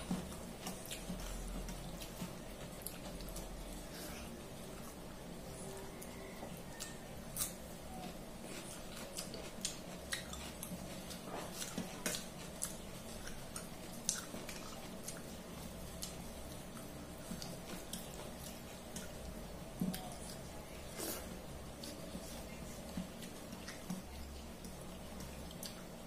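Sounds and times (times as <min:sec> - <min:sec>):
faint steady hum: 0:00.0 - 0:26.0
wet chewing: 0:00.0 - 0:26.0.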